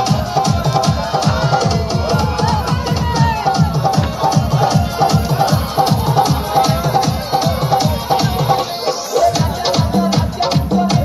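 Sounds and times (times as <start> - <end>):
fast drum beat: 0.0 - 11.0
loud dance song: 0.0 - 11.0.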